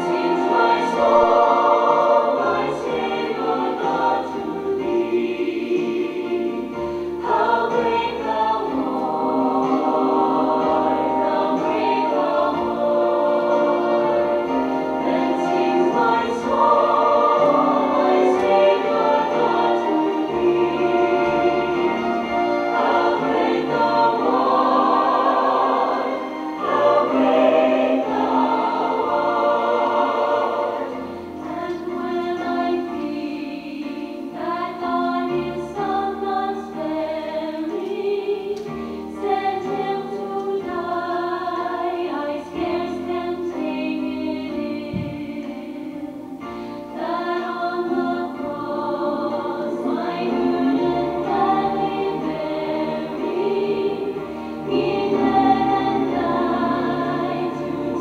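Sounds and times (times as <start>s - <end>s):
choir singing a sacred song: 0.0s - 58.0s.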